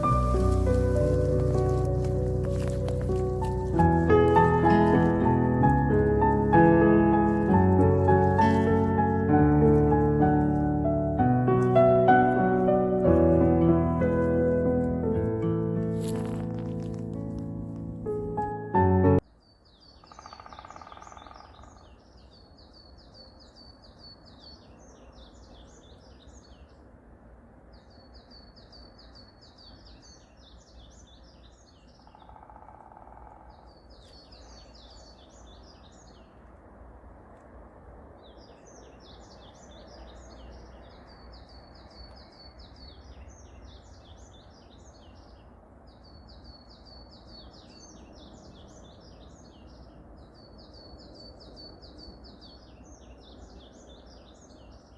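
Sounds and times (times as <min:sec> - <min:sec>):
songbird singing: 0:00.0 - 0:26.9, 0:27.7 - 0:36.6, 0:38.2 - 0:54.9.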